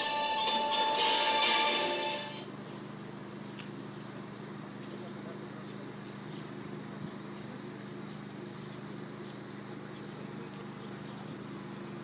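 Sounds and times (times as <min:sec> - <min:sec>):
faint outdoor background: 0:00.0 - 0:12.0
low mechanical hum: 0:00.0 - 0:12.0.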